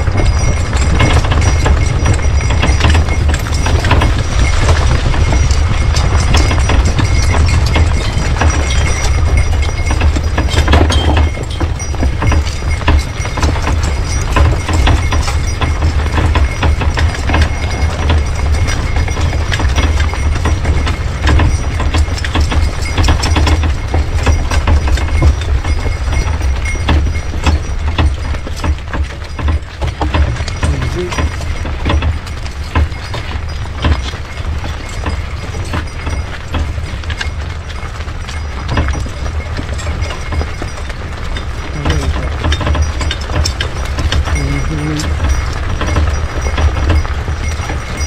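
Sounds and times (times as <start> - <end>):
horse-drawn vehicle rattling: 0.0 - 48.0.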